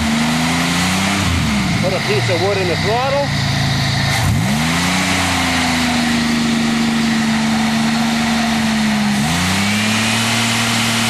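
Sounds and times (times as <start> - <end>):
car engine running at steady revs: 0.0 - 11.0.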